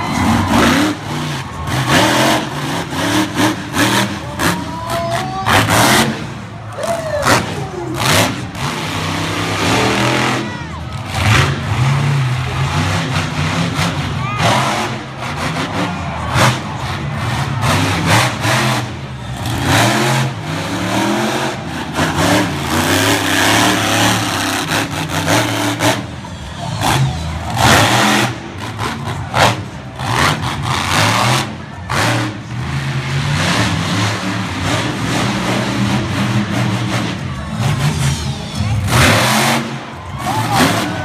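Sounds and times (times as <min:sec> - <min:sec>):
monster truck engine revving: 0:00.0 - 0:41.0.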